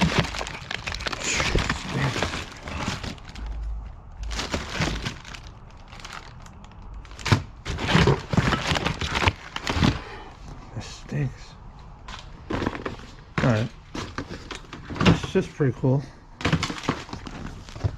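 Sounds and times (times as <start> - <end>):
objects clattering and knocking: 0.0 - 10.3, 12.0 - 15.6, 16.4 - 17.9.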